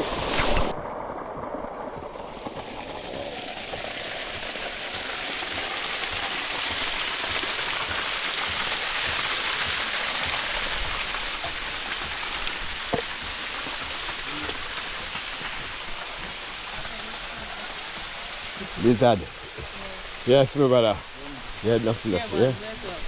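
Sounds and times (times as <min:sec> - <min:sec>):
waterfall pouring: 0:00.0 - 0:23.0.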